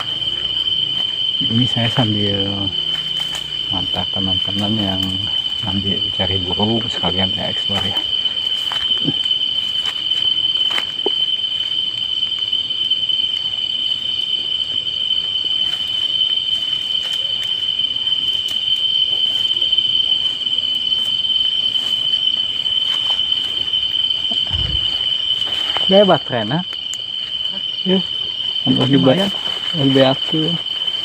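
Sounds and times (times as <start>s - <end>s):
night insects droning: 0.0s - 31.0s.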